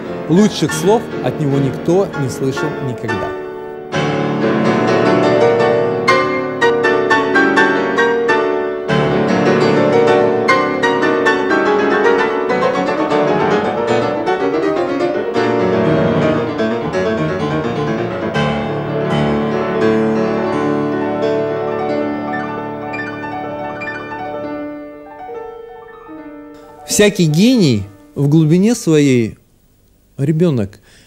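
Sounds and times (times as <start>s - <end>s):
grand piano playing classical music: 0.0s - 29.0s.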